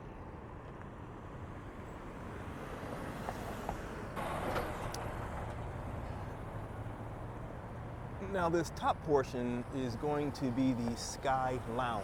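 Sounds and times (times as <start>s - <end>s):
street traffic rumbling: 0.3s - 12.0s.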